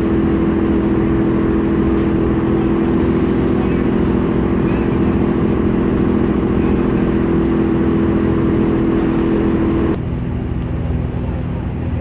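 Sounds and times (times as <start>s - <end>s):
ferry engine drone: 0.0s - 12.0s
low rumble: 0.0s - 12.0s.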